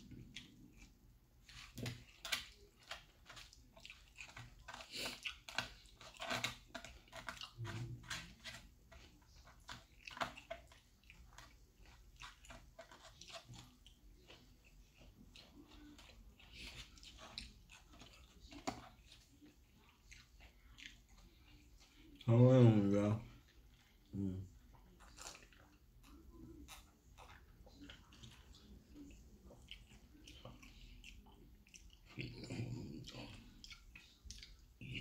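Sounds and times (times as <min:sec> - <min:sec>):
person chewing fried fish: 0:00.0 - 0:22.6, 0:23.3 - 0:35.0.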